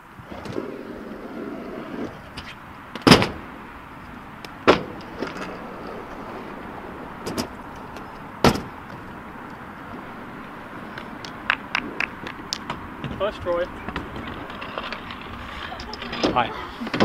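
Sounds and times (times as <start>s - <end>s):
scooter wheels rumbling on asphalt: 0.0s - 17.0s.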